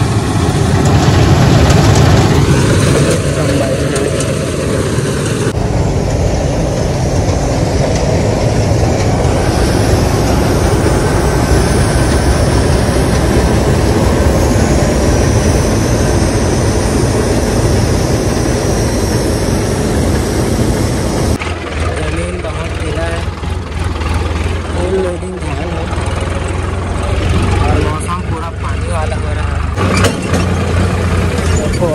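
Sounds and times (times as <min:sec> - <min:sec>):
combine harvester cutting: 0:00.0 - 0:31.9
tractor diesel engine: 0:00.0 - 0:31.9.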